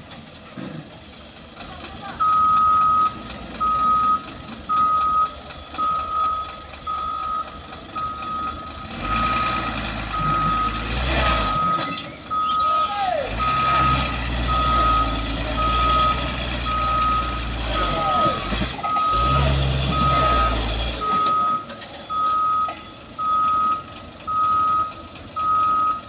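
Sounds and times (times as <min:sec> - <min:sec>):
heavy diesel engine under load: 0:00.0 - 0:26.0
reversing alarm beeping: 0:02.2 - 0:26.0.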